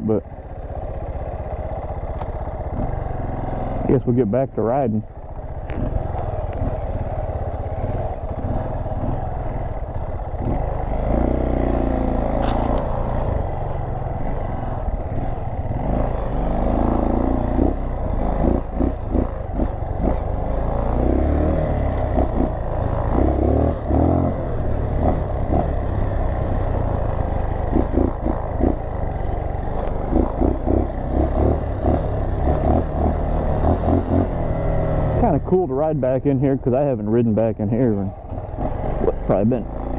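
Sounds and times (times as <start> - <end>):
motorcycle engine running: 0.0 - 39.9
motorcycle rattling over bumps: 0.0 - 39.9.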